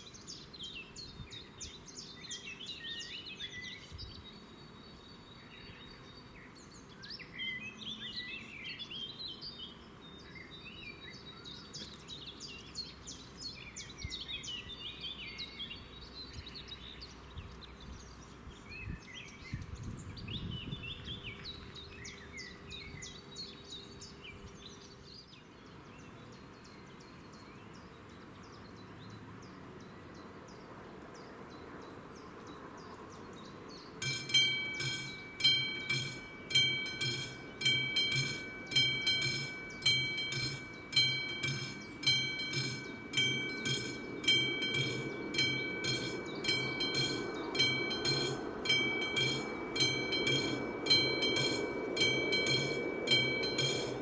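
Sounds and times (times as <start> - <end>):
outdoor background noise: 0.0 - 54.0
songbirds singing and chirping: 0.0 - 54.0.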